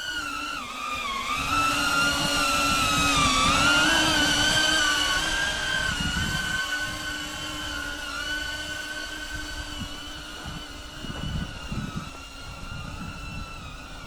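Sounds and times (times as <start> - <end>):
drone propellers whining: 0.0 - 14.0
wind buffeting microphone: 0.2 - 14.0.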